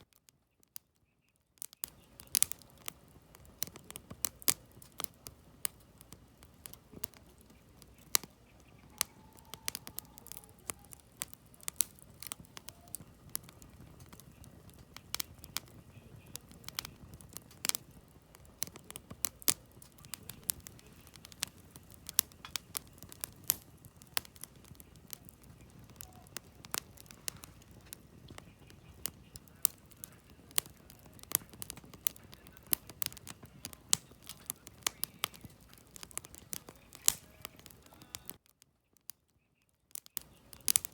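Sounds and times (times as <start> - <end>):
firewood popping and snapping: 0.0 - 40.9
soft hiss of flame: 1.6 - 38.5, 39.9 - 40.9.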